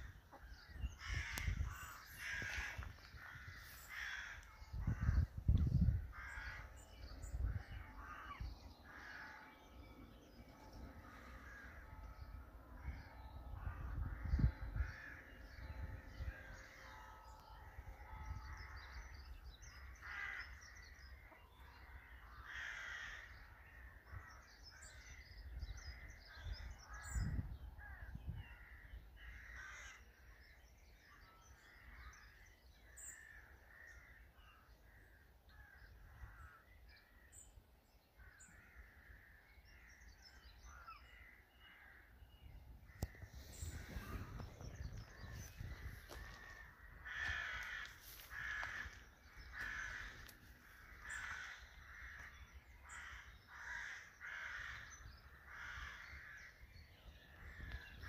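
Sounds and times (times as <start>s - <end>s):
wild birds calling and singing: 0.0s - 58.0s.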